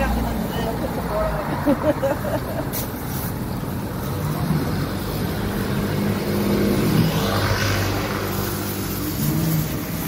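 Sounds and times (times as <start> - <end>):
vehicle passing: 0.0 - 10.0.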